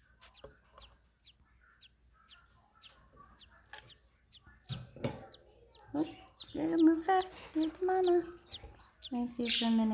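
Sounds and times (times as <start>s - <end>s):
chick peeping: 0.0s - 9.9s.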